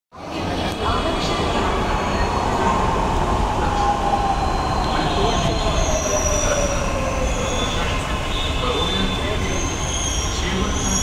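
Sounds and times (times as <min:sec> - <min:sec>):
metro train rumble and whine: 0:00.2 - 0:11.0.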